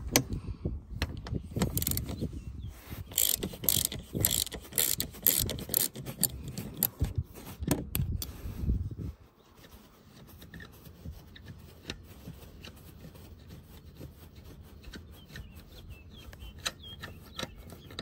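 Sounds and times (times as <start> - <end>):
hand rubbing on carpet and plastic: 1.0 - 18.0.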